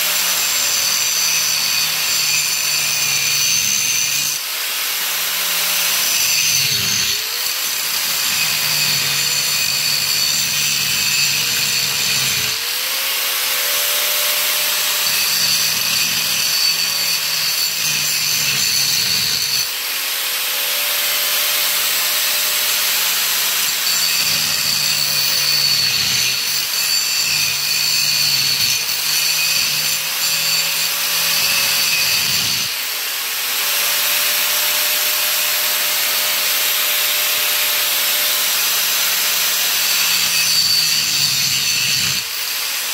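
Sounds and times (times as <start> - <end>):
angle grinder cutting steel: 0.0 - 42.9.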